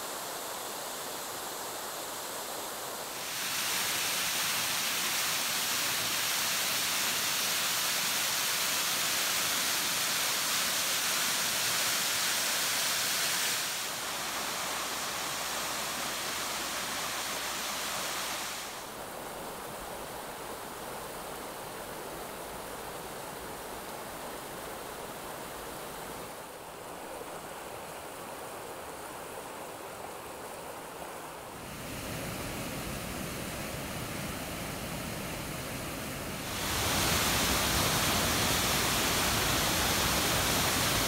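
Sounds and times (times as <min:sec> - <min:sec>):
rushing waterfall water: 0:00.0 - 0:41.0.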